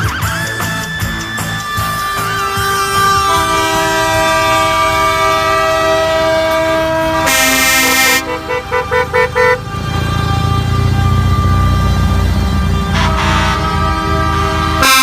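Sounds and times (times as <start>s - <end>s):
truck air horns: 1.6s - 15.0s.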